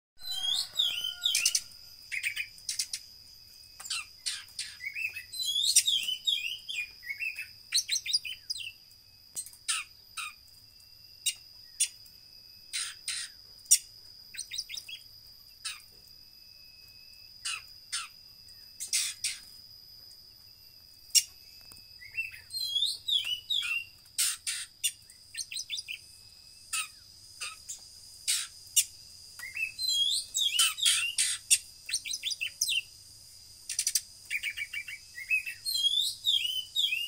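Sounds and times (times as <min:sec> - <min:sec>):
bird singing whistles and trills: 0:00.2 - 0:10.4, 0:12.6 - 0:19.5, 0:21.1 - 0:33.0, 0:33.7 - 0:37.0.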